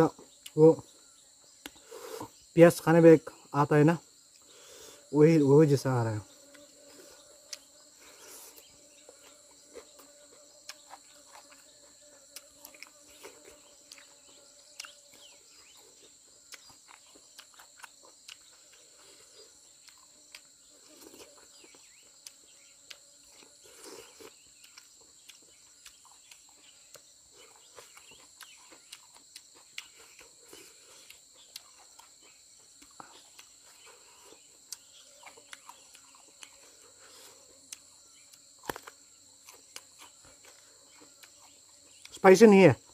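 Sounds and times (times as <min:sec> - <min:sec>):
crickets droning: 0:00.0 - 0:42.9
person chewing food: 0:06.4 - 0:42.1.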